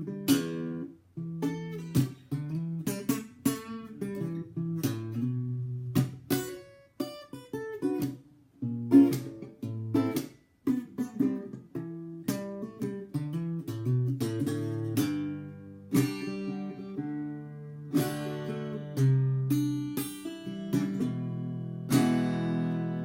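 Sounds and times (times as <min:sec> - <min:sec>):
acoustic guitar picking and strumming: 0:00.0 - 0:23.0.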